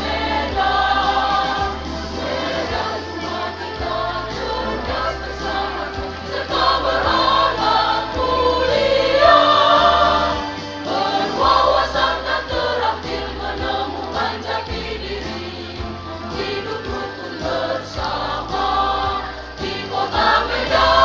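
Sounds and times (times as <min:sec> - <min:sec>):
school choir singing a march: 0:00.0 - 0:21.0.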